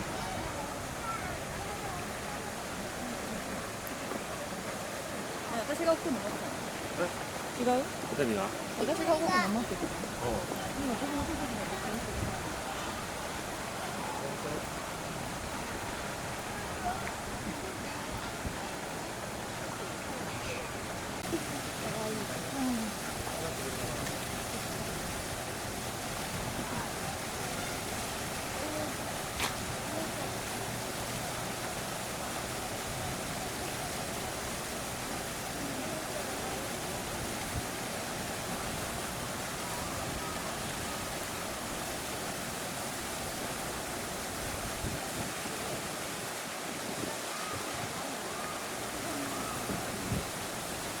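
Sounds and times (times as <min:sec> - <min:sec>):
faint distant voices: 0:00.0 - 0:51.0
outdoor background noise: 0:00.0 - 0:51.0.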